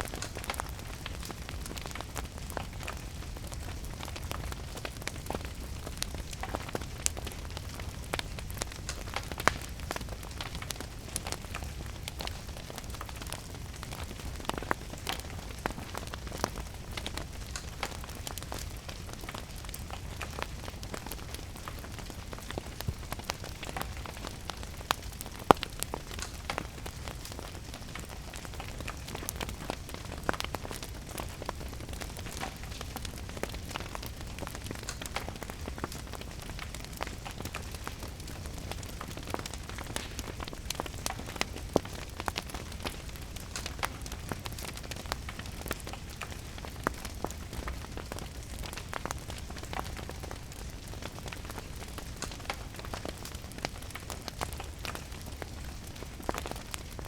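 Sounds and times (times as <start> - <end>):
steady rain: 0.0 - 57.0
wood fire crackling and popping: 0.0 - 57.0.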